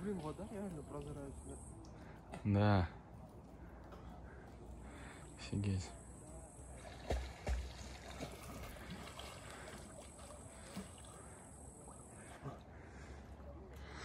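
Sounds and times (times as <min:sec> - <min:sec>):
lake water lapping around swimmer: 0:00.0 - 0:14.0.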